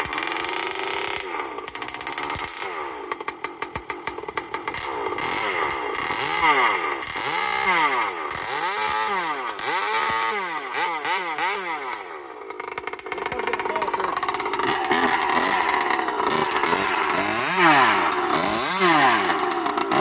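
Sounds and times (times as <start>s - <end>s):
chainsaw idling and revving: 0.0s - 20.0s.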